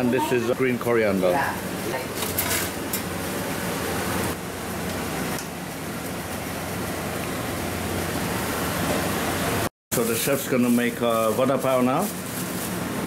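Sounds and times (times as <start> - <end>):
kitchen background rushing noise: 0.0 - 13.0.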